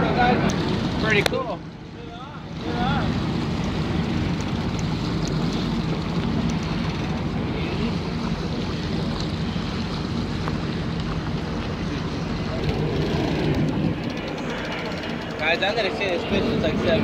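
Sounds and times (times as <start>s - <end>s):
boat engine running: 0.0s - 17.0s
water washing past hull: 0.0s - 17.0s
wind buffeting microphone: 0.0s - 17.0s.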